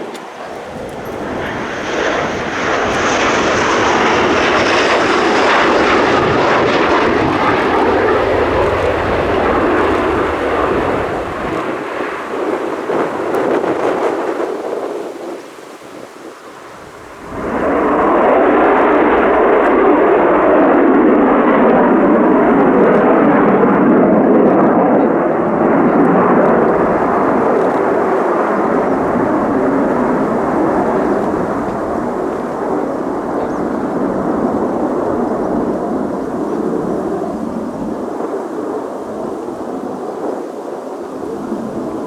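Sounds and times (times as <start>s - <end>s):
jet engine roar: 0.0s - 42.0s.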